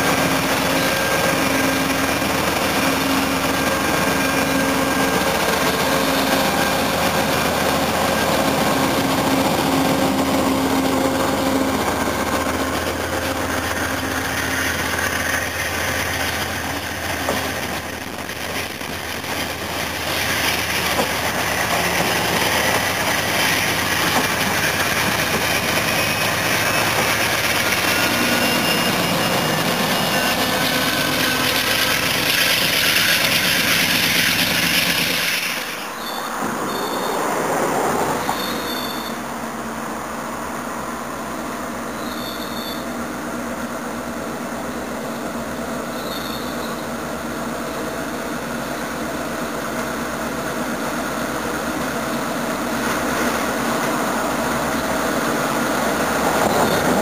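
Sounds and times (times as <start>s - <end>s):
diesel locomotive engine running: 0.0s - 57.0s
train wheels rolling on rails: 0.0s - 57.0s.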